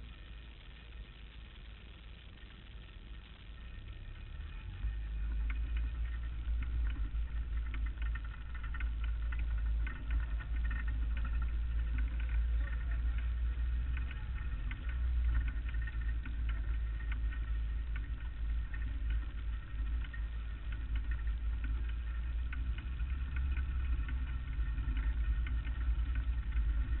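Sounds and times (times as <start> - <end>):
race car engine idling: 3.5 - 27.0.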